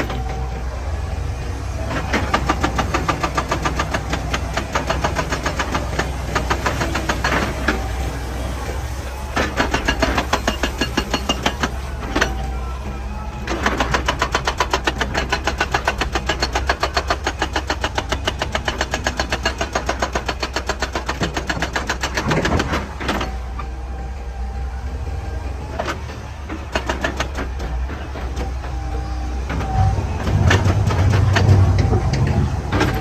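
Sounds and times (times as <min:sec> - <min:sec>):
diesel engine running: 0:00.0 - 0:33.0
hydraulic breaker hammering rock: 0:00.0 - 0:33.0.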